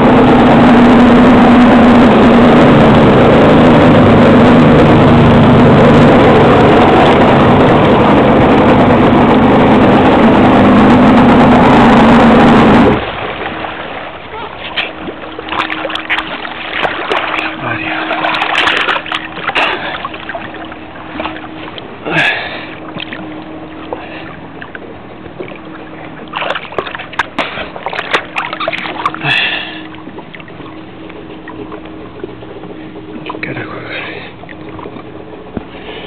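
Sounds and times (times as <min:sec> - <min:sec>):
low hum: 0:00.0 - 0:36.0
water slapping against hull: 0:00.0 - 0:36.0.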